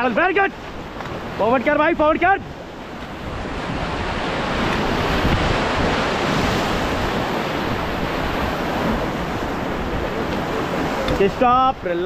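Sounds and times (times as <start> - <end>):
wind buffeting microphone: 0.0 - 11.9
river rapid rushing and splashing: 0.0 - 12.0.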